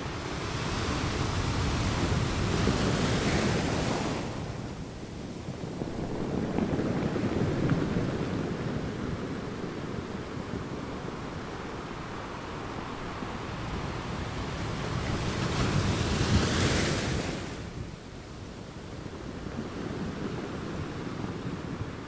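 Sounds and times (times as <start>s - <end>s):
ocean waves washing in: 0.0s - 17.8s.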